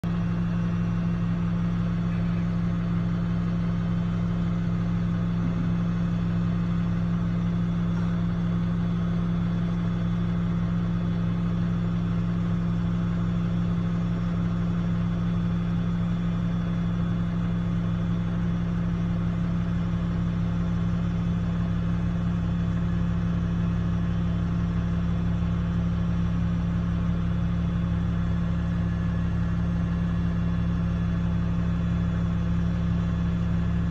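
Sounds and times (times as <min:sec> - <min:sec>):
diesel engines running: 0:00.0 - 0:33.9.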